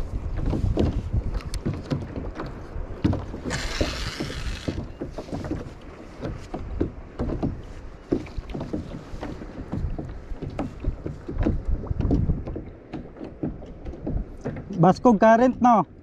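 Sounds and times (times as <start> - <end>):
water slapping against kayak hull: 0.0 - 16.0.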